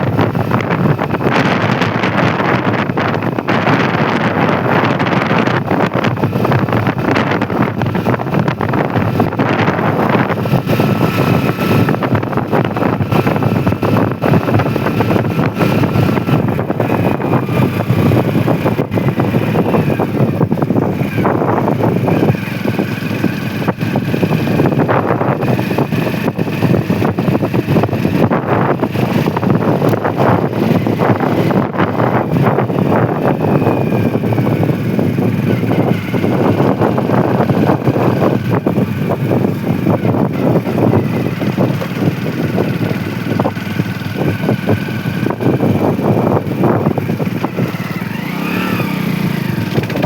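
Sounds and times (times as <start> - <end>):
motorcycle running: 0.0 - 50.0
wind rushing over microphone: 0.0 - 50.0.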